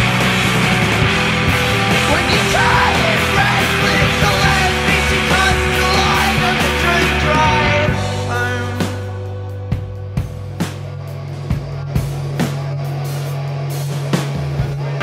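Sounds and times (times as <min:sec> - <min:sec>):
loud rock band with electric guitars: 0:00.0 - 0:15.0.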